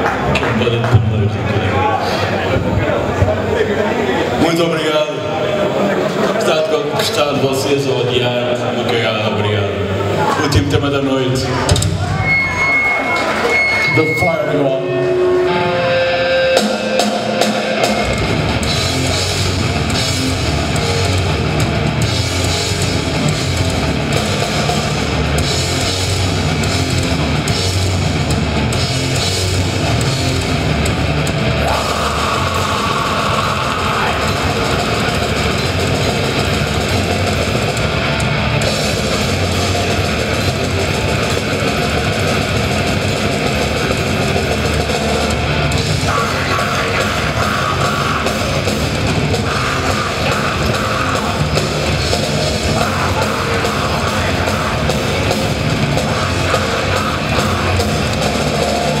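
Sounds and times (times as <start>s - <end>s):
metal band playing live: 0.0s - 59.0s
drum kit: 11.5s - 59.0s
ringing electric guitar: 11.7s - 59.0s.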